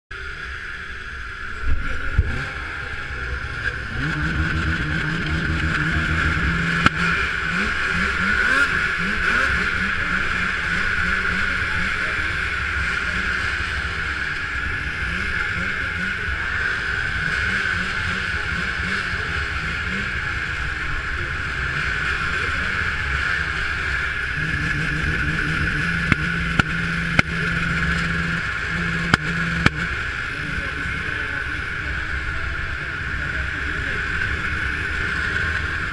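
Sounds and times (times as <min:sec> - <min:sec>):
snowmobile engines idling: 0:00.1 - 0:35.9.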